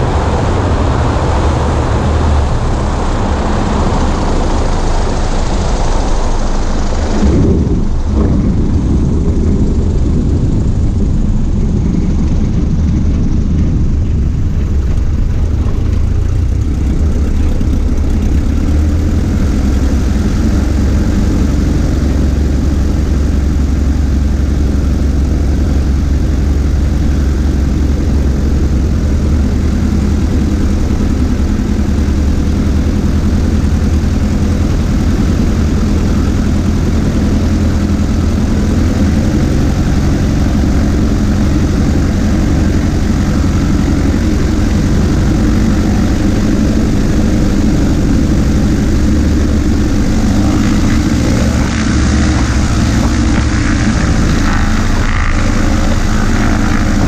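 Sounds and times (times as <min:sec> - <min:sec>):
small plane engine and propeller: 0:00.0 - 0:57.0.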